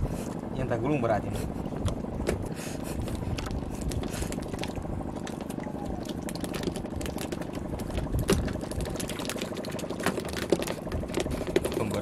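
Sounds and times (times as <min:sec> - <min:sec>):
steady low rumble: 0:00.0 - 0:12.0
water lapping and dripping: 0:01.3 - 0:12.0
small clicks and splashes: 0:01.7 - 0:12.0.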